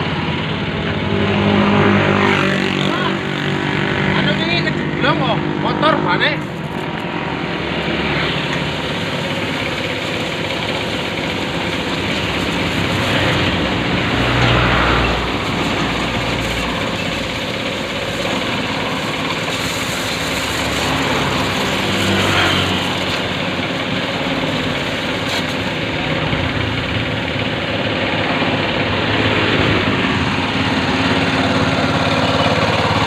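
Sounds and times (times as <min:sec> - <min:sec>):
pressure washer pump running: 0:00.0 - 0:33.0.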